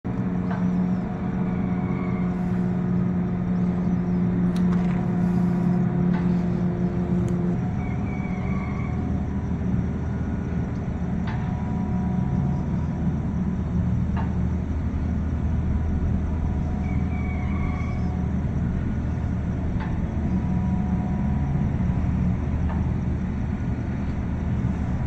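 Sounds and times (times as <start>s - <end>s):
low mechanical hum and rumble: 0.0s - 25.0s.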